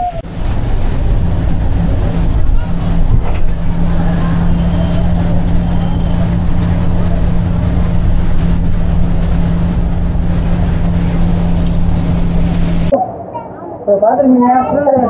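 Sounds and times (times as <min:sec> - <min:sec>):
bus engine drone: 0:00.0 - 0:14.0
air conditioning hum: 0:00.0 - 0:15.0.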